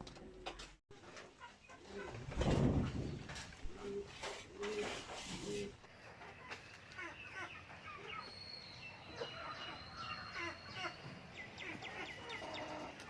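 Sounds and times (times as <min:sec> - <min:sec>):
chickens clucking: 0:00.3 - 0:02.9, 0:03.7 - 0:08.3, 0:09.0 - 0:13.0.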